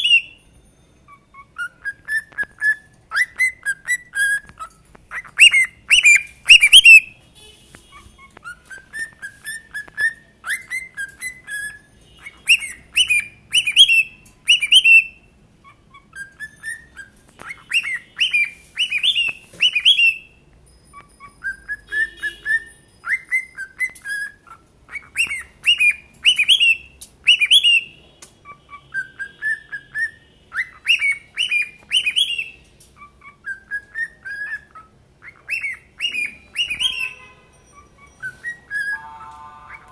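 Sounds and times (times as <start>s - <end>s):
cockatiels whistling: 0.0s - 7.2s, 7.9s - 39.9s.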